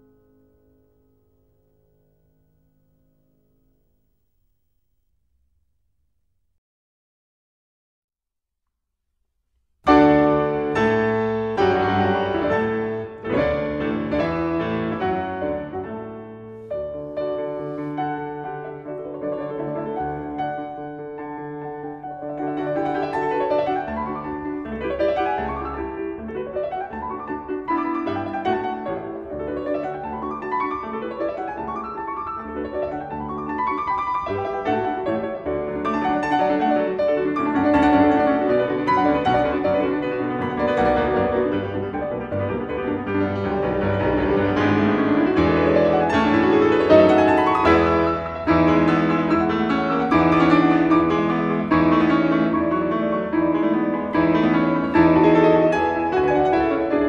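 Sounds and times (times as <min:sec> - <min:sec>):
classical piano music: 0:09.8 - 0:57.0.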